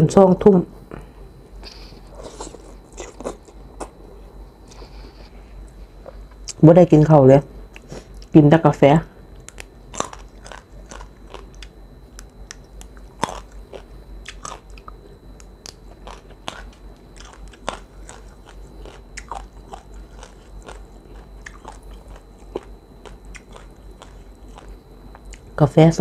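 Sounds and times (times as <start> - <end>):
crunchy food chewing: 1.3 - 6.6, 9.2 - 25.6.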